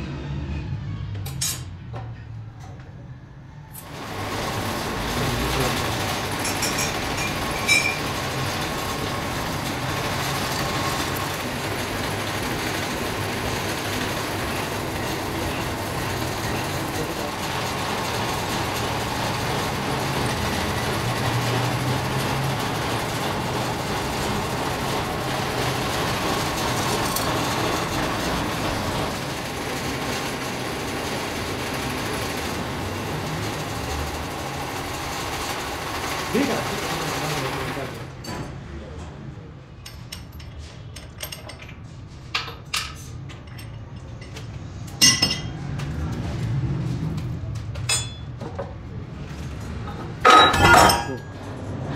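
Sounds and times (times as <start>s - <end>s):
factory machinery running: 0.0s - 51.9s.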